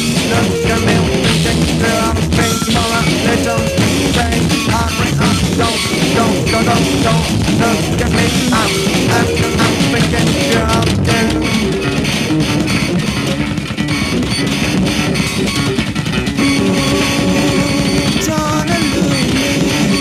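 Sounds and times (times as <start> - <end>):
drums: 0.0 - 20.0
electric guitar: 0.0 - 20.0.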